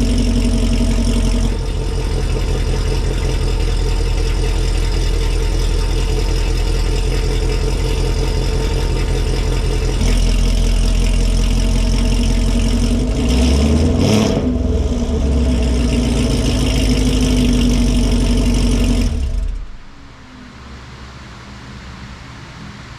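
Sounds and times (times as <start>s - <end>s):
car engine idling loudly: 0.0s - 21.0s.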